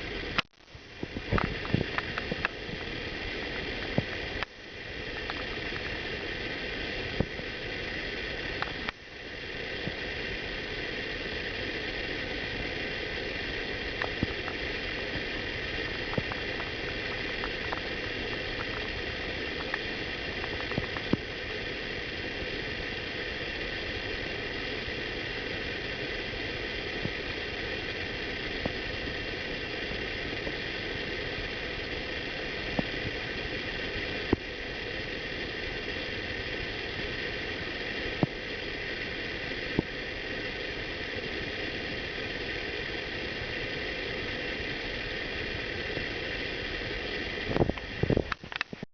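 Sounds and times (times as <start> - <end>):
background hum and hiss: 0.0 - 48.9.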